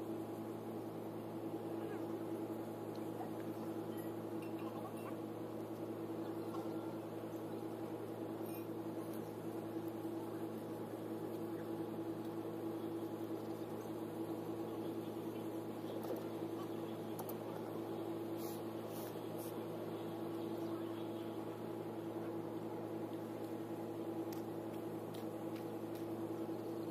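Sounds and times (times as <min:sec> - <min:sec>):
steady mechanical hum: 0:00.0 - 0:26.9.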